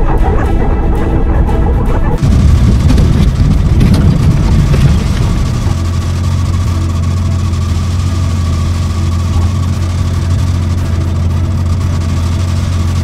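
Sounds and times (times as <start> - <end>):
vehicle engine idling: 2.2 - 13.0.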